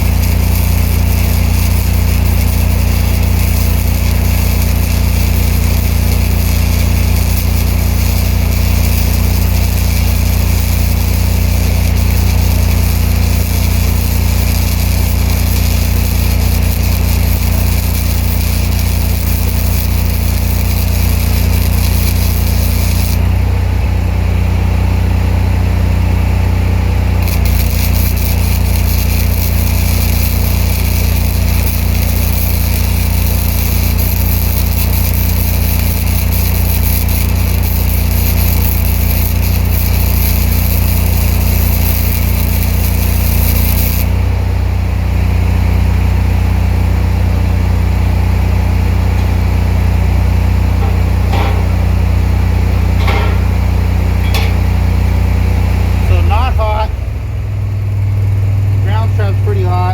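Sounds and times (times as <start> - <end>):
welding arc sizzling: 0.0 - 23.8, 27.0 - 59.9
welder generator engine running: 0.0 - 59.9.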